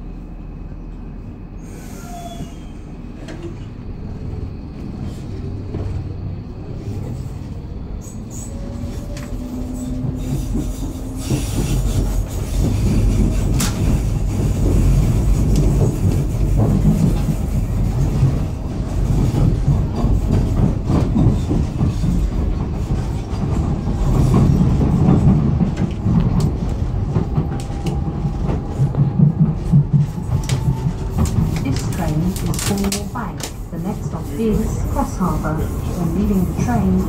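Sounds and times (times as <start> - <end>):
train rumble: 0.0 - 37.0
train whine gliding in pitch: 0.0 - 37.0.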